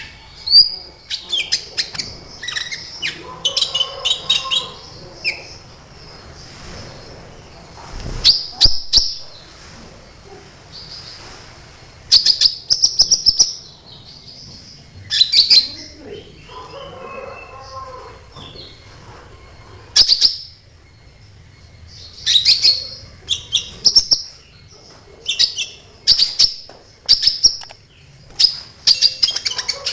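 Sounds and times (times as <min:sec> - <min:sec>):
bird chirping and trilling: 0:00.0 - 0:29.9.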